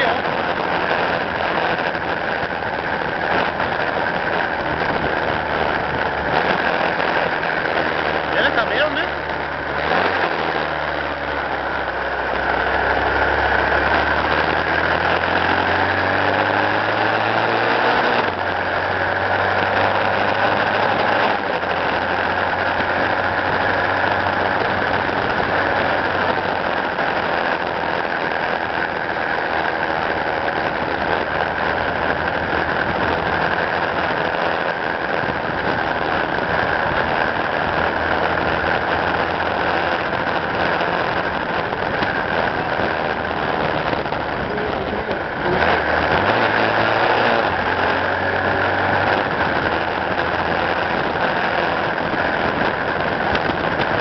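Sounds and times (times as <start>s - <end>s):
road noise: 0.0s - 54.0s
vehicle engine accelerating: 0.0s - 54.0s.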